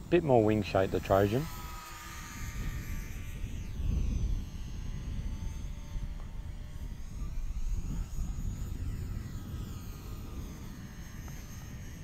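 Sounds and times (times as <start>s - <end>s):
model plane motor and propeller whining: 0.0s - 12.0s
wind rumble on microphone: 0.0s - 12.0s.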